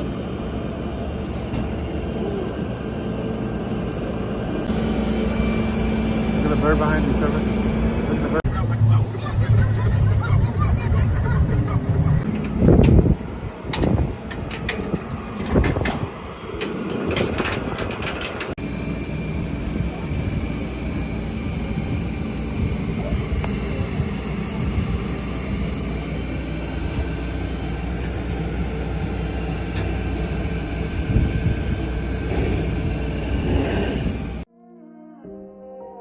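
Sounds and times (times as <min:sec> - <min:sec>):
vehicle engine rumbling: 0:00.0 - 0:34.5.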